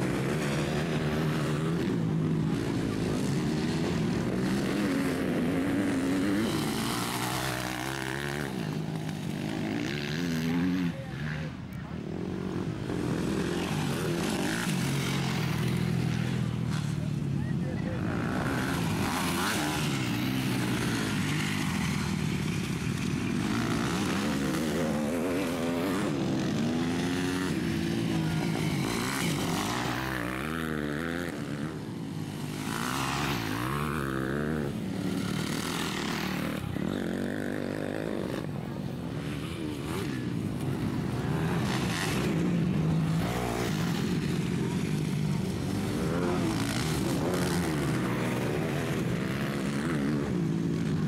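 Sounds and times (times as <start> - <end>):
motocross bike engines revving: 0.0 - 51.0.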